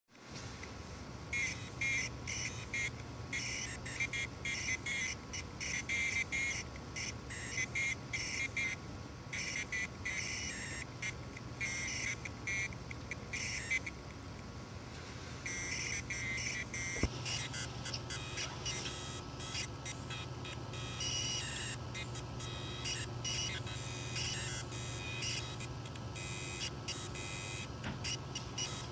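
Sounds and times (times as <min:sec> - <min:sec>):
steady low hum: 0:00.2 - 0:28.9
high-pitched electronic chirping: 0:01.3 - 0:14.0, 0:15.4 - 0:28.9.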